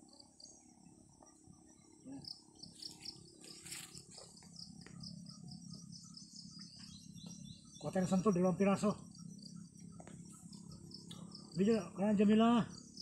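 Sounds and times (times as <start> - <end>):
insects trilling: 0.0 - 13.0
pulsing insect chirp: 0.0 - 13.0.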